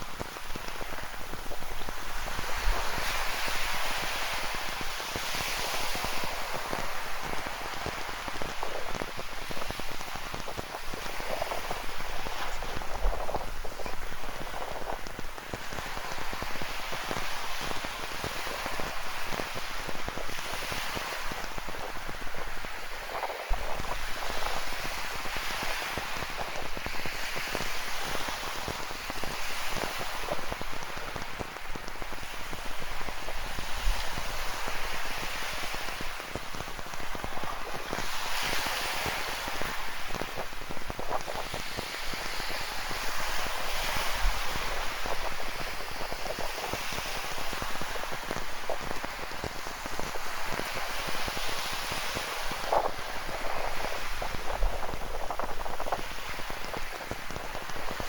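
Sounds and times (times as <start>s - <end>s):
waves washing onto rocky shore: 0.0s - 58.0s.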